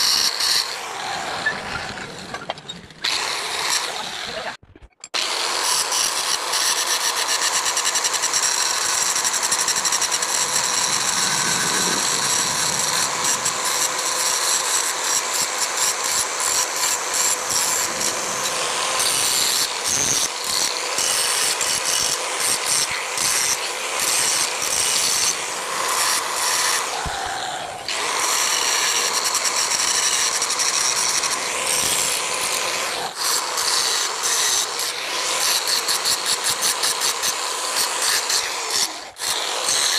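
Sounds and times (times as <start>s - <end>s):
angle grinder grinding steel: 0.0s - 4.6s, 5.2s - 39.9s.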